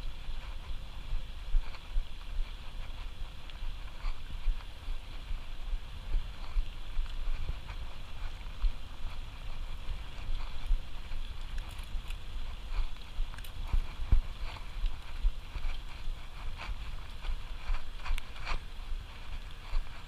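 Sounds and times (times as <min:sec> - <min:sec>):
wind rumbling on microphone: 0:00.0 - 0:20.0
bike clicks and rattles: 0:00.1 - 0:20.0.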